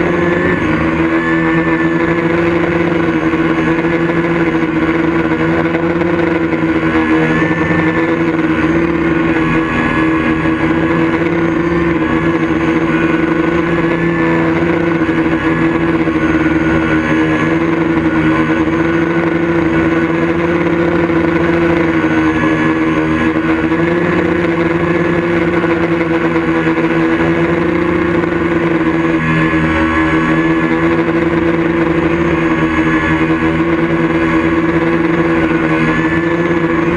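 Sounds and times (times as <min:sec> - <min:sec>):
loud mechanical drone: 0:00.0 - 0:36.9.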